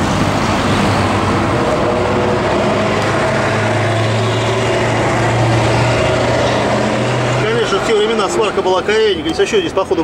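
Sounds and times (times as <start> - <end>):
running motor drone: 0.0 - 8.7
traffic-like noise: 0.0 - 10.0.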